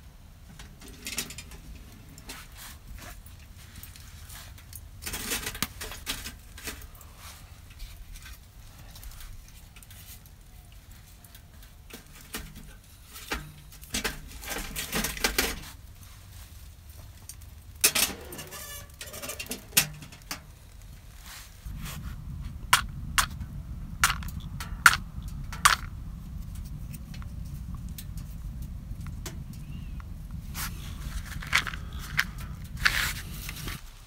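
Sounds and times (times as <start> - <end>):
steady low rumble: 0.0 - 34.0
rustling of dry bark: 1.6 - 34.0.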